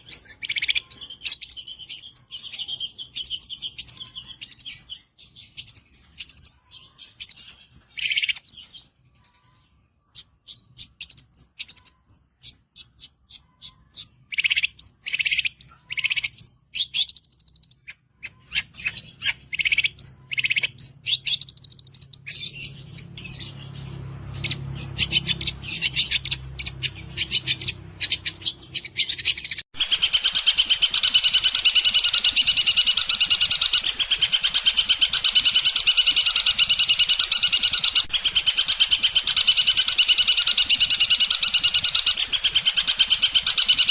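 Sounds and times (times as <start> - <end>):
bird chirping song: 0.0 - 43.9.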